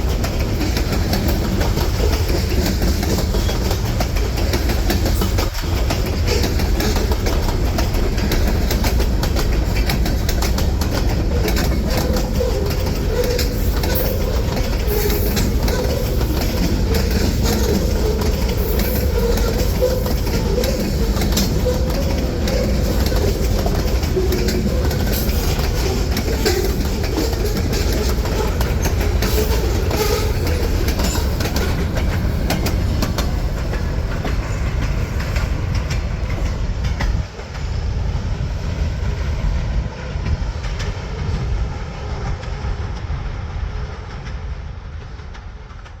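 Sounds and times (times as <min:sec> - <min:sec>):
wheels clicking over rail joints: 0:00.0 - 0:38.2
freight train rumbling past: 0:00.0 - 0:46.0.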